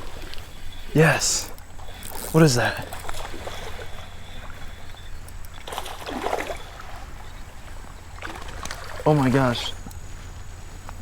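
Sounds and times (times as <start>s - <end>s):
flowing creek water: 0.0s - 11.0s.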